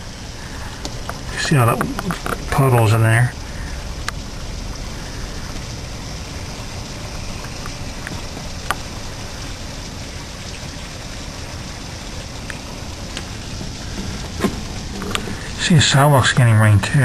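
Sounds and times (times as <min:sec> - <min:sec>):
heavy rain on ground and puddles: 0:00.0 - 0:17.0
sharp ticks of raindrops: 0:00.0 - 0:17.0.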